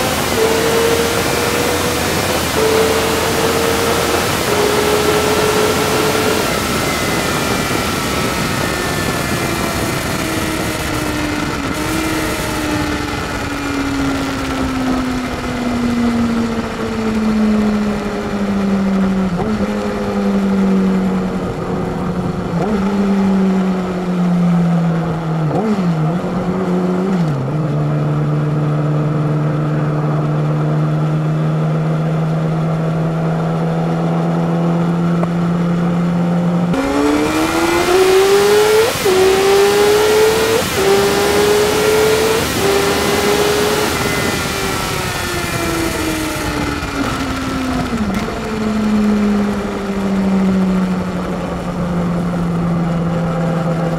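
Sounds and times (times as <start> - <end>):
gear changes: 0.0 - 28.6, 31.7 - 53.9
motorcycle engine: 0.0 - 53.9.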